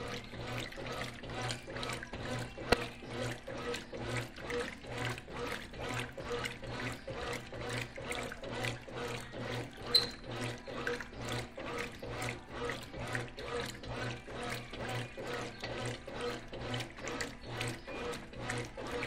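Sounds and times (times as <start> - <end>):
low motor hum: 0.0 - 19.0
washing machine water sloshing: 0.0 - 19.0.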